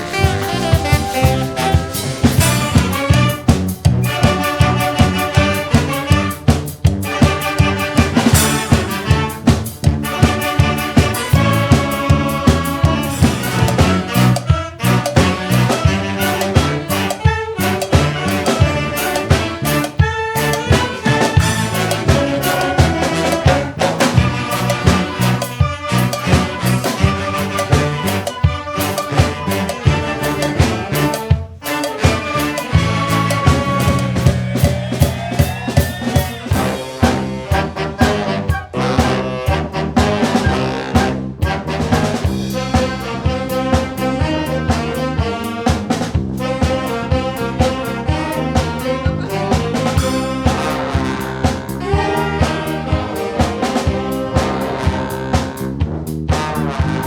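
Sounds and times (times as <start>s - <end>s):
brass band playing: 0.0s - 57.0s
steady drum beat: 0.0s - 57.0s.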